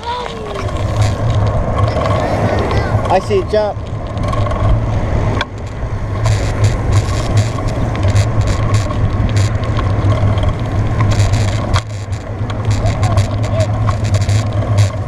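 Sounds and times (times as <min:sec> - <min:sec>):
bicycle riding drone and rush: 0:00.0 - 0:15.0.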